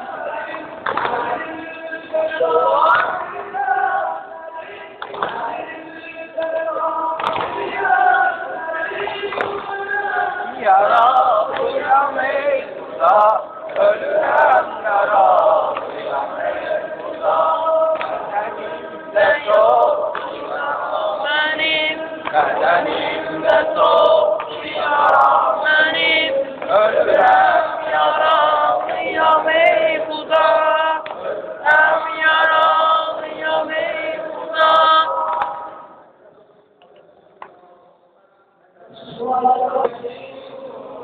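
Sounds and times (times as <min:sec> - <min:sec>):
crowd chanting: 0:00.0 - 0:36.5.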